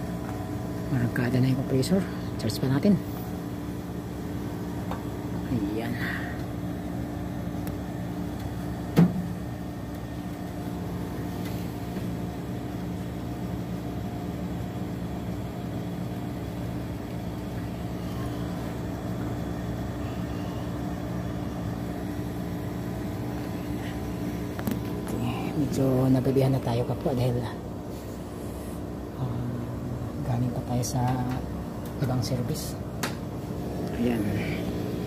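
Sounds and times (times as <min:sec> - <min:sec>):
air conditioner compressor humming: 0:00.0 - 0:35.0.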